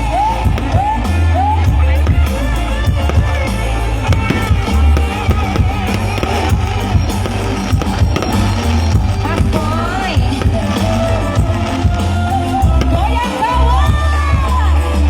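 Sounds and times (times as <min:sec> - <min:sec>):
music with drum beat and bass: 0:00.0 - 0:15.0.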